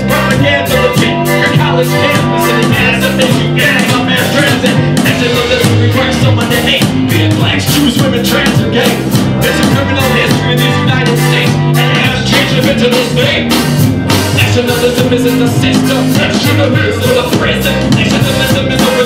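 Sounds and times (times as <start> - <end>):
accordion: 0.0 - 19.0
drum kit beat: 0.0 - 19.0
electric bass: 0.0 - 19.0.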